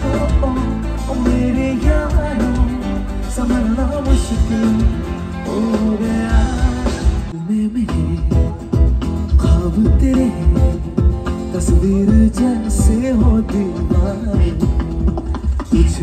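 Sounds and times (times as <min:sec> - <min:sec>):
person singing: 0:00.0 - 0:16.0
rock band playing: 0:00.0 - 0:16.0.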